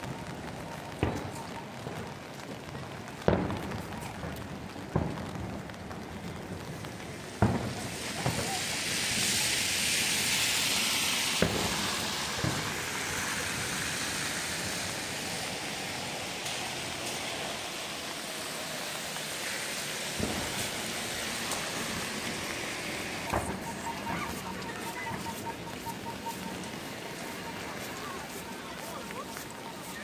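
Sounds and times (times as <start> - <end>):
rain on a wet street: 0.0 - 30.0
traffic on wet asphalt: 0.0 - 30.0.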